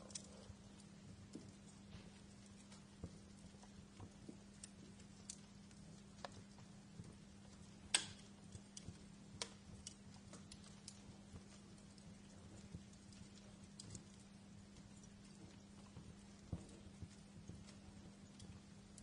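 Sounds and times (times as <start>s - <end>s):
faint low hum: 0.0s - 19.0s
wood fire crackling: 0.0s - 19.0s.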